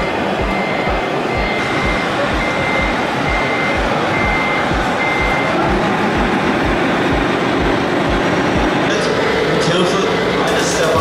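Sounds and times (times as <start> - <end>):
reversing beeper: 0.0 - 11.0
truck engine running: 0.0 - 11.0.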